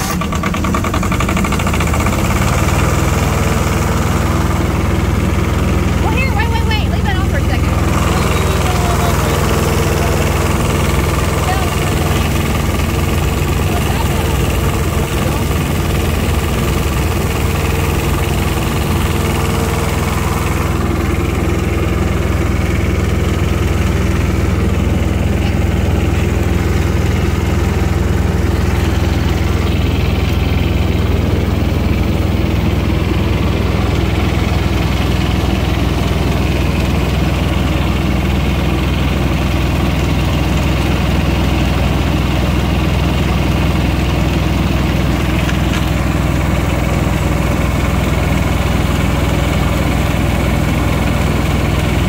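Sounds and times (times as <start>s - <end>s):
small diesel engine running: 0.0s - 52.0s.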